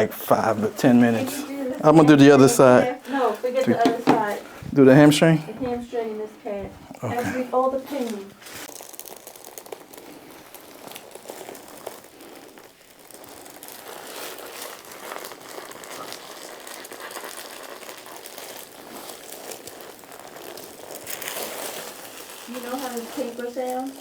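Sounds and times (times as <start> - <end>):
paper table cover crinkling: 0.0 - 24.0.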